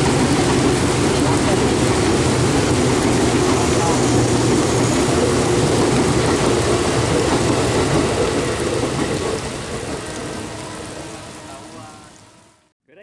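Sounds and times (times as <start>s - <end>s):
heavy rain falling: 0.0s - 12.7s.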